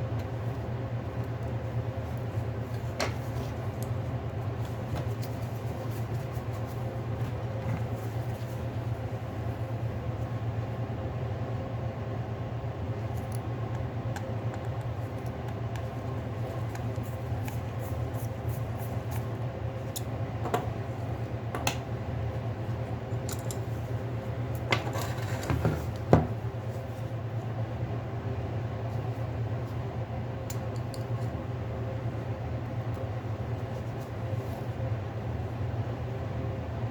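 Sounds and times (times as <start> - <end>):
low machinery hum: 0.0 - 36.9.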